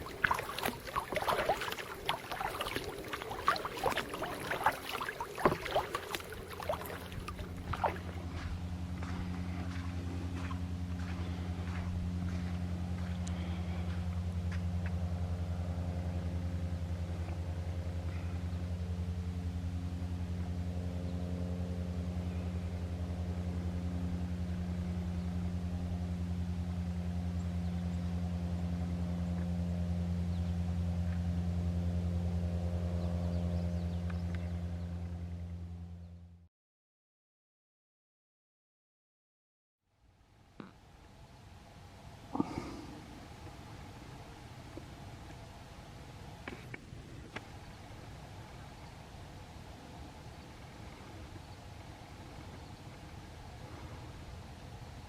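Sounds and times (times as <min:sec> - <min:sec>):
low engine-like hum: 0:00.0 - 0:36.5, 0:39.9 - 0:55.0.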